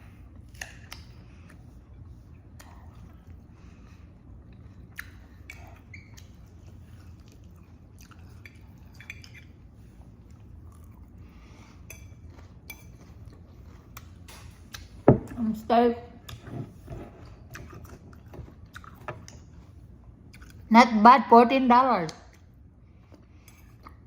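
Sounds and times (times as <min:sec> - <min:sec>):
soft chewing: 0:00.0 - 0:20.7, 0:22.2 - 0:24.0
low steady hum: 0:00.0 - 0:24.0.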